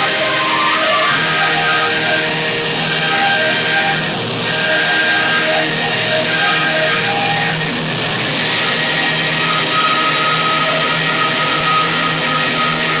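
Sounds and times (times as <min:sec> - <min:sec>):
cymbal crash: 0:00.0 - 0:13.0.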